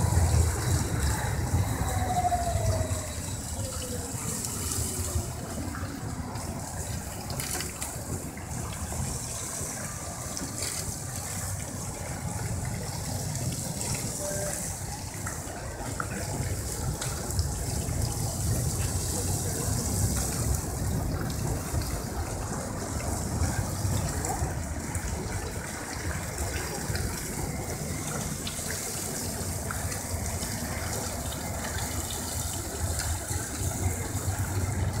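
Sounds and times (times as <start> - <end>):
fountain water jets splashing: 0.0 - 35.0.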